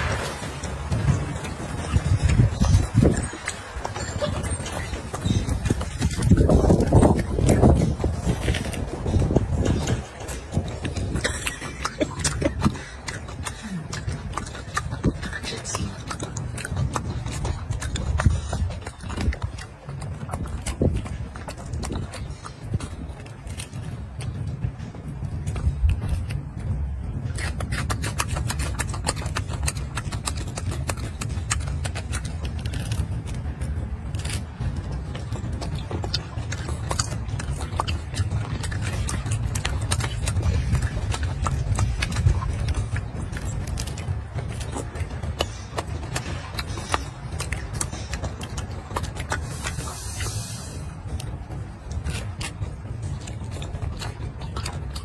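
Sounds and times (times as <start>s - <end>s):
monkey chewing fruit: 0.0s - 55.0s
steady low rumble: 0.0s - 55.0s
fruit peel tearing: 4.2s - 24.3s, 27.3s - 55.0s.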